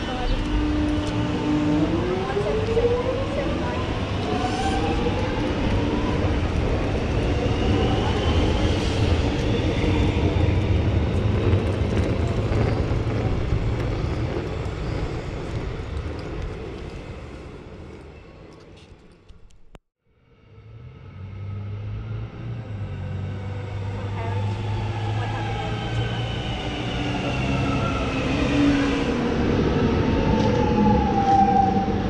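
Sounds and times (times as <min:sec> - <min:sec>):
train wheels rumbling on rail: 0:00.0 - 0:19.1, 0:22.3 - 0:32.0.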